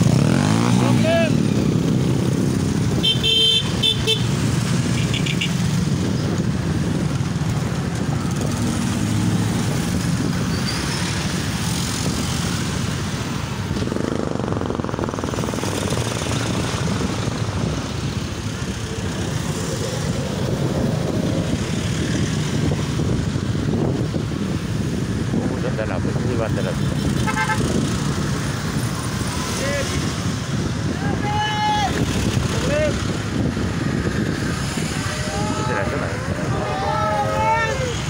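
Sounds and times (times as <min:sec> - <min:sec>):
motorcycles and trucks passing: 0:00.0 - 0:38.0.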